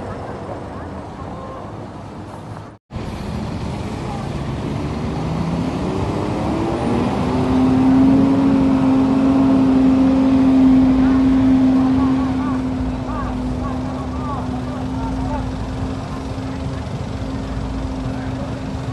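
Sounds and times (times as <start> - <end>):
bus and road noise: 0.0 - 18.9.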